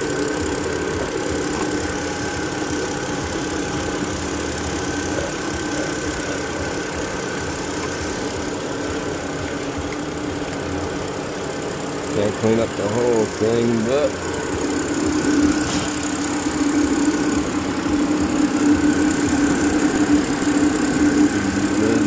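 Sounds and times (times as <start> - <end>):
car engine idling: 0.0 - 22.0
faint steady whine: 0.0 - 22.0.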